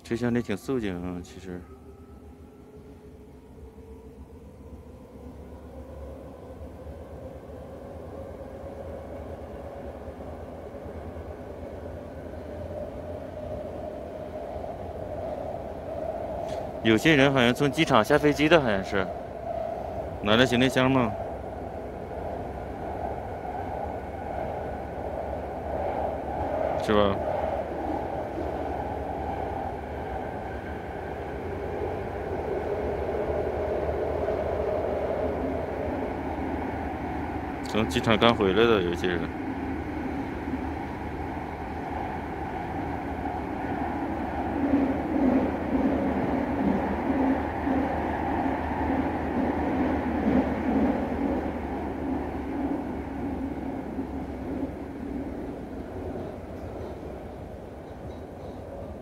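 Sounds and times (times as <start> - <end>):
faint humming tone: 0.0 - 59.0
subway car rumble: 0.0 - 59.0.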